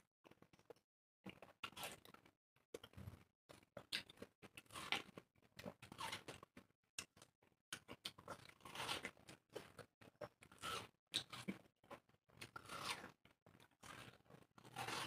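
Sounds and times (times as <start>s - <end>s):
people chewing watermelon: 0.3s - 15.0s.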